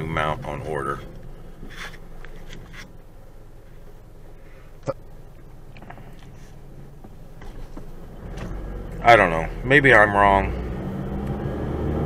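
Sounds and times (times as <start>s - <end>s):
car cabin hum: 0.0s - 11.7s.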